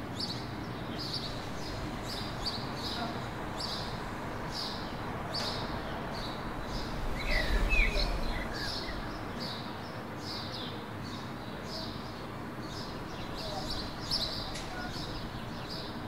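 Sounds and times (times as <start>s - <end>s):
small birds chirping: 0.2s - 16.0s.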